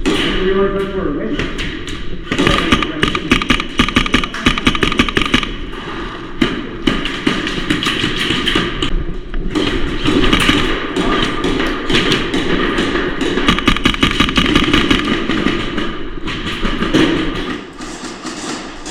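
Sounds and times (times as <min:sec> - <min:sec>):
airsoft guns firing: 0:00.0 - 0:08.9, 0:09.5 - 0:18.9
pellets striking hard surfaces: 0:01.3 - 0:08.9, 0:09.5 - 0:18.9.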